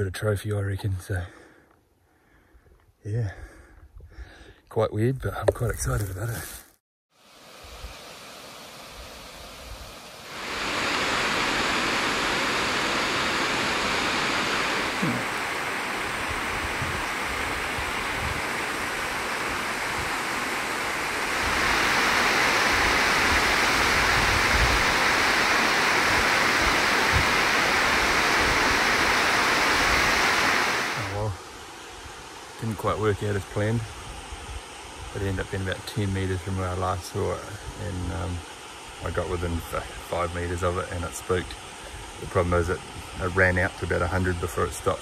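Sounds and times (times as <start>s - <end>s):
steady rushing noise: 7.3s - 45.0s.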